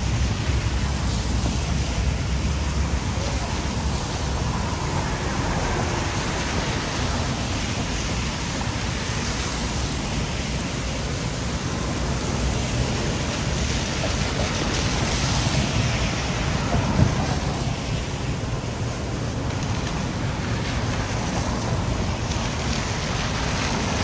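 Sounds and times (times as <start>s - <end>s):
heavy rain hissing: 0.0s - 24.0s
wind rumbling on microphone: 0.0s - 24.0s.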